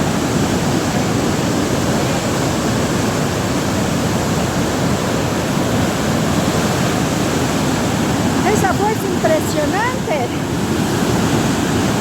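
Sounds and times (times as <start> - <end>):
waterfall crashing into pool: 0.0 - 12.0.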